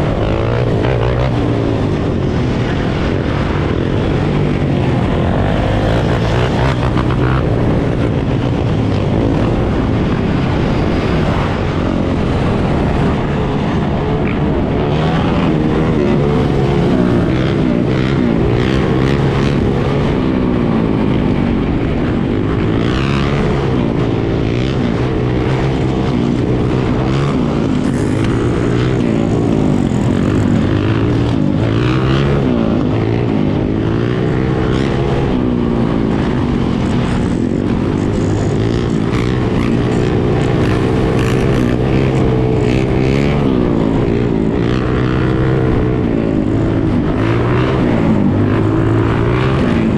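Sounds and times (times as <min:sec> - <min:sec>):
dirt bike and atv engines revving: 0:00.0 - 0:49.9.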